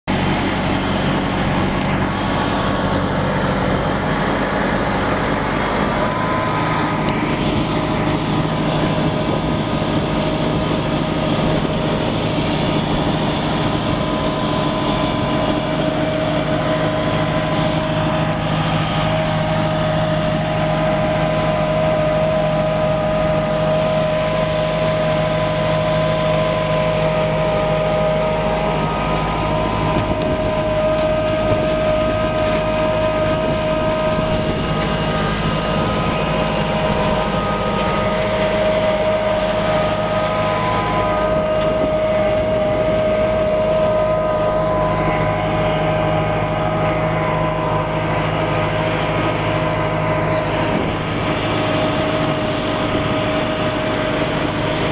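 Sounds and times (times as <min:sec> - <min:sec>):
tractor engine running: 0:00.0 - 0:54.9
steady high tone: 0:00.1 - 0:54.9.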